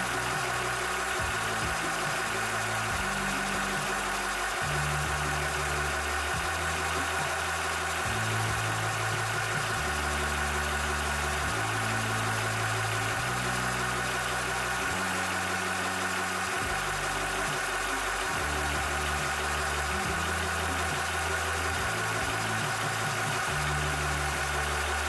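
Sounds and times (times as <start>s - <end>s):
air compressor humming: 0.0s - 25.0s.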